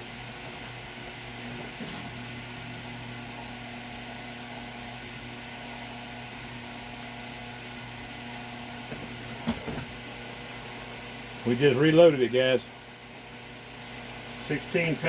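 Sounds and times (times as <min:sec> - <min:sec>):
electric machine hum: 0:00.0 - 0:15.0.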